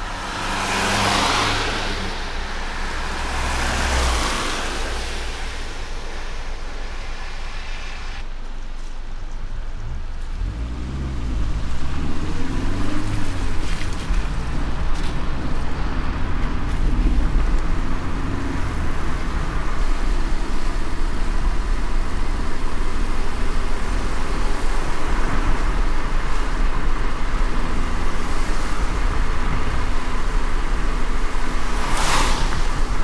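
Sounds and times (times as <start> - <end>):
car engine and road rumble: 0.0 - 33.0
tyres hissing on wet road: 0.0 - 33.0.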